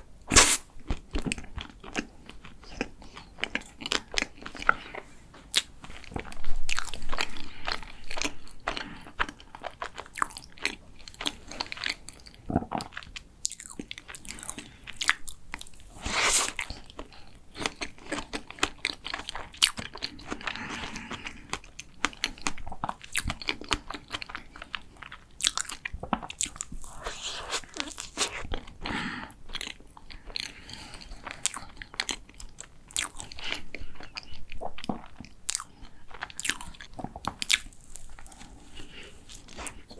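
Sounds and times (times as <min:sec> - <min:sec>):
chewing crunchy macaron: 0:00.3 - 0:39.9.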